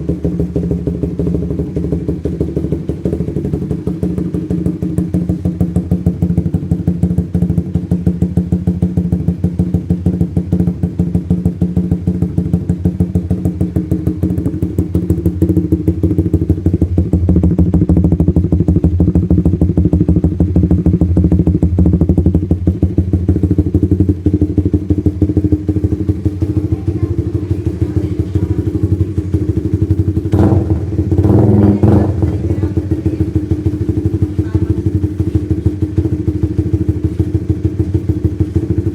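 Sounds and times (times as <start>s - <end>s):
motorcycle engine pulsing exhaust: 0.0s - 38.9s.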